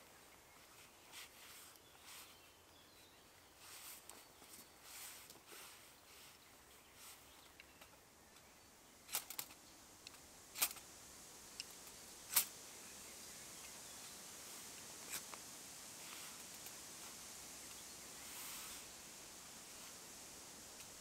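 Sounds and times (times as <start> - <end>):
soft steady hiss: 0.0 - 21.0.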